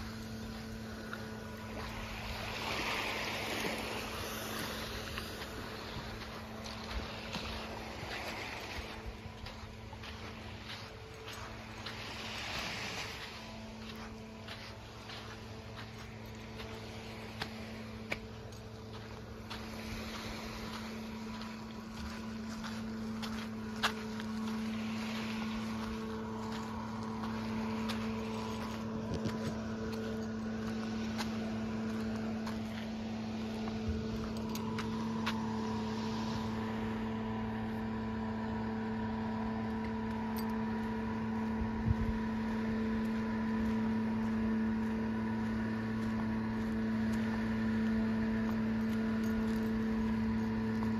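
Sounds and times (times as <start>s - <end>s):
motor humming: 0.0s - 50.9s.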